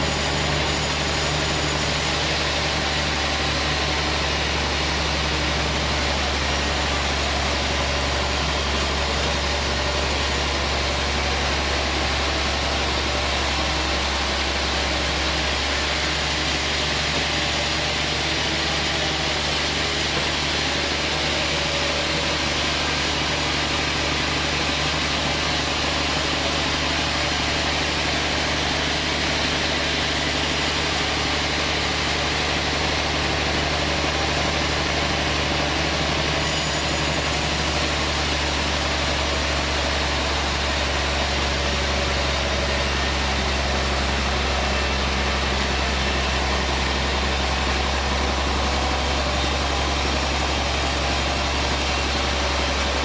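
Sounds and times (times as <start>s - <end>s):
band saw machinery running: 0.0s - 53.0s.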